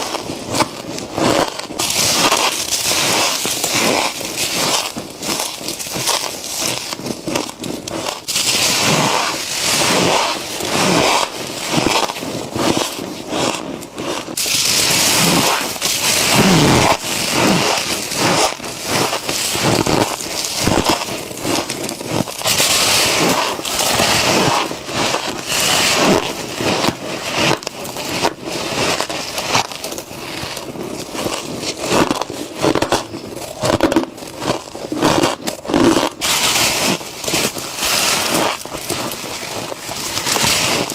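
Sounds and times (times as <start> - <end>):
crunchy chewing of frost: 0.0 - 40.9.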